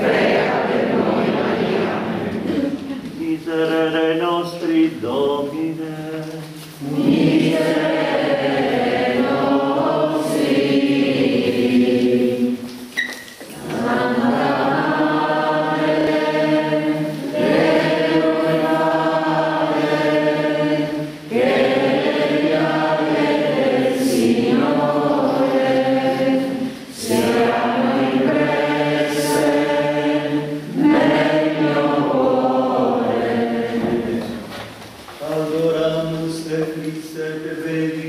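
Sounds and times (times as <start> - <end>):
congregation singing a hymn: 0.0 - 38.0.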